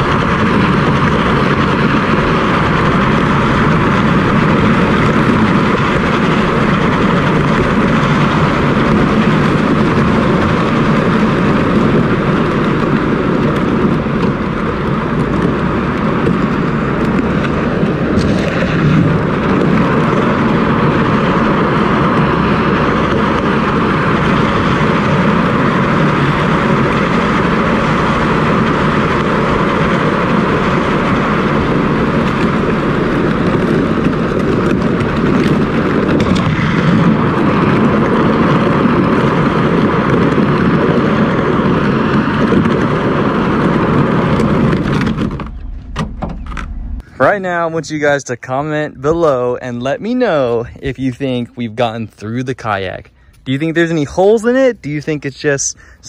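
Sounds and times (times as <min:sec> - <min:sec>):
plastic hull grinding on asphalt: 0:00.0 - 0:55.6
road noise: 0:00.0 - 0:56.0.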